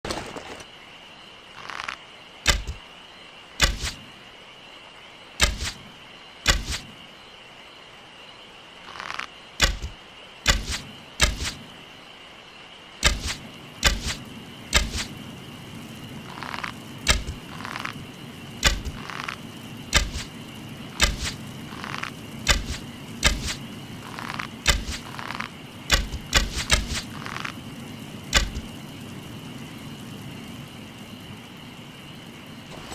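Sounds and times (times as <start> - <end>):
steady high hum: 2.5 - 32.9.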